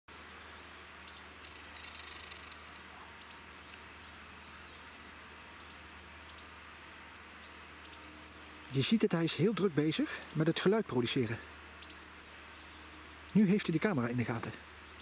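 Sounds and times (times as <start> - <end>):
great tit singing: 0.1 - 15.0.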